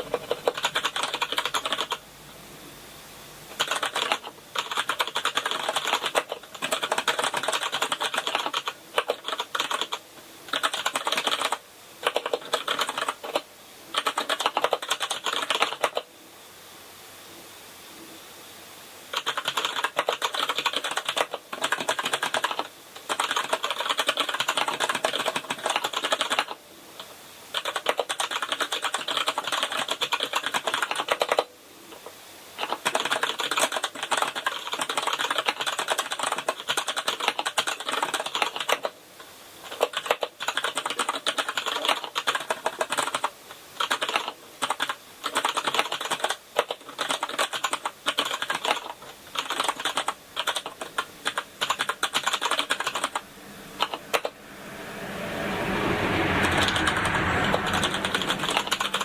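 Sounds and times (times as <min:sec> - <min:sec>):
fast typing on mechanical keyboard: 0:00.0 - 0:02.0, 0:03.5 - 0:16.1, 0:19.1 - 0:39.0, 0:39.6 - 0:53.2, 0:57.8 - 0:59.0.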